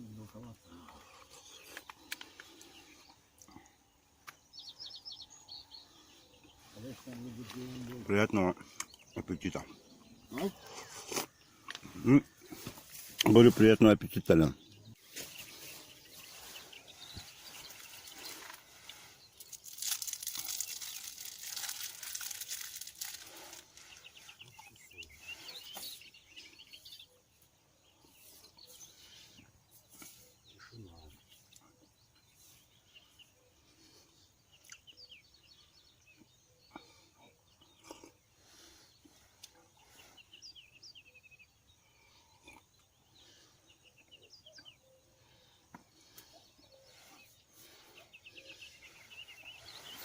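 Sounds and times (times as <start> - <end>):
birds chirping faintly: 0.0 - 50.0.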